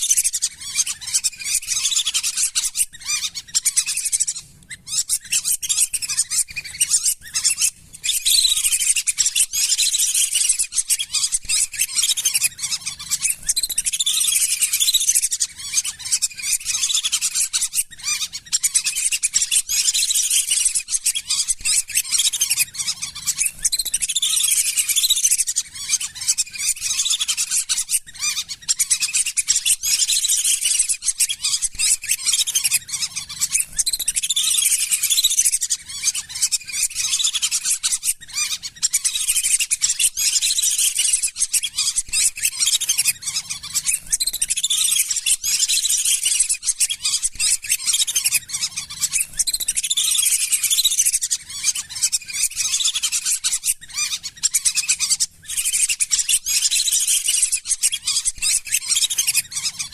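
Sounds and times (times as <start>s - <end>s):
ducks whistling: 0.0s - 59.9s.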